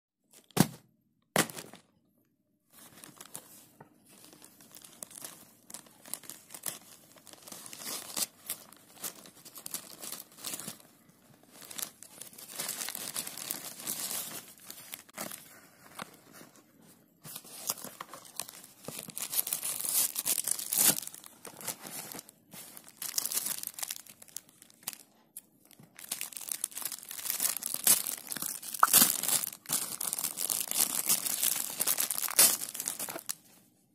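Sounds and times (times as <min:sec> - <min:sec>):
plastic packaging crinkling: 0:02.8 - 0:16.4, 0:17.3 - 0:33.5.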